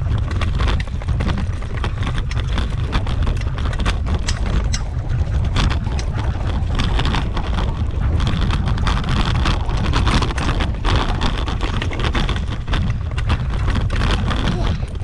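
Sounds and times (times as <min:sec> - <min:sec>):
camera rig knocking and rattling: 0:00.0 - 0:15.0
wind buffeting microphone: 0:00.0 - 0:15.0.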